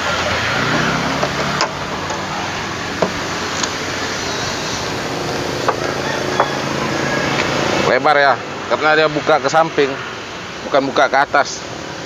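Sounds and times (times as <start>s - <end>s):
steady vehicle hum: 0.0s - 12.0s.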